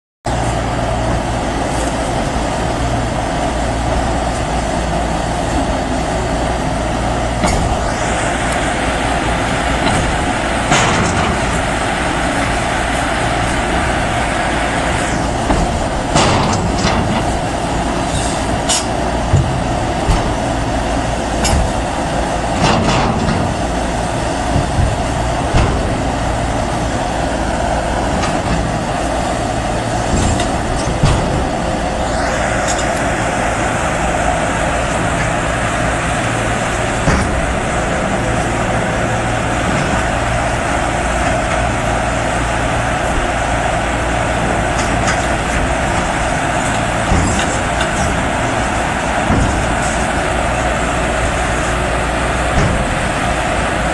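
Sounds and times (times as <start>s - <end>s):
excavator diesel engine running: 0.3s - 53.9s.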